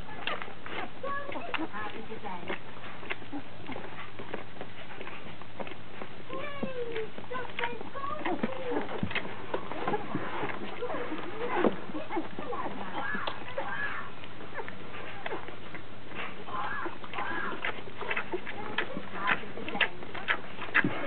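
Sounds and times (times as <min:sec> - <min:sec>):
puppies squeaking and whimpering: 0:00.0 - 0:21.0
puppies suckling clicks and snuffles: 0:00.0 - 0:21.0.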